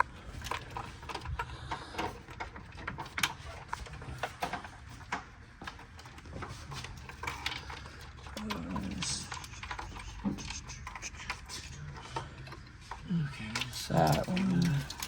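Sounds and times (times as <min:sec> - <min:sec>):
hand tools clicking and knocking: 0:00.0 - 0:15.0.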